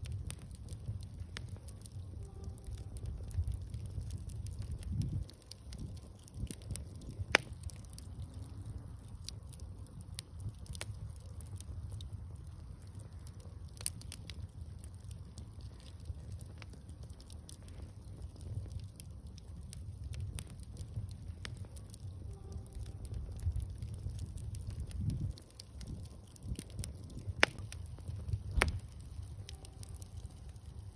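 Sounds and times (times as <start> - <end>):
bonfire crackling and popping: 0.0 - 30.9
low steady rumble: 0.0 - 30.9.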